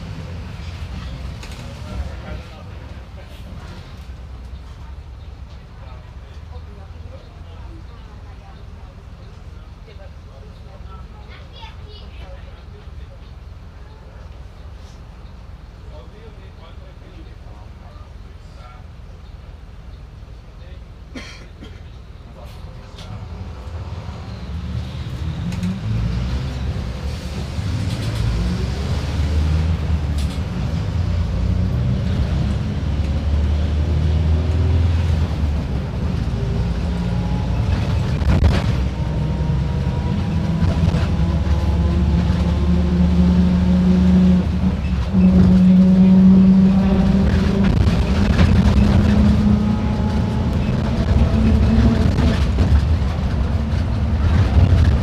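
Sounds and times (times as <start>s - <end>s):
bus diesel engine under load: 0.0s - 55.0s.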